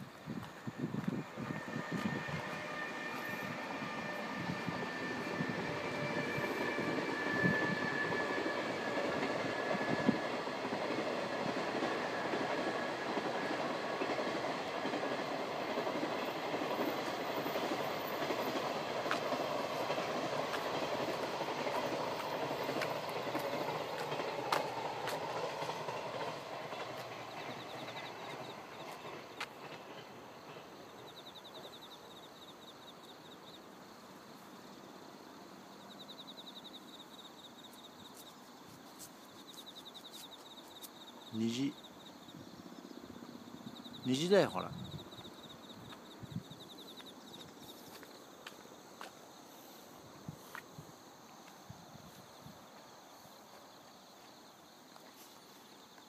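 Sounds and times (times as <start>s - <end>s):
train wheels running on rails: 0.0s - 56.0s.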